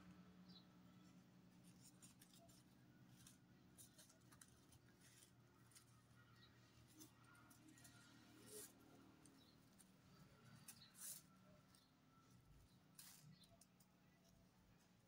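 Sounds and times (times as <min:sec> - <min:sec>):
low steady hum: 0:00.0 - 0:15.0
paper strips rustling: 0:01.0 - 0:15.0.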